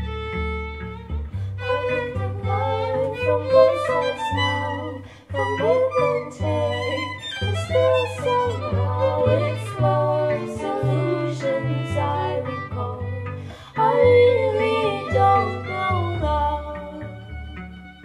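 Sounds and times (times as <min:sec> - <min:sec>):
low cello notes: 0:00.0 - 0:18.0
violin melody: 0:00.0 - 0:18.0.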